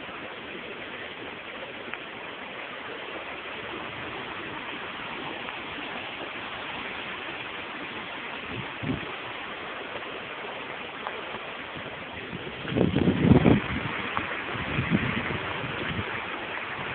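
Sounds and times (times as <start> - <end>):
floodwater rushing: 0.0 - 16.9.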